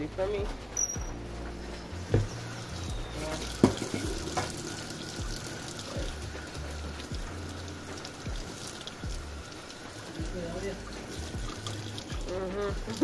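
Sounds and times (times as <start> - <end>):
tap water running into sink: 2.0 - 13.0.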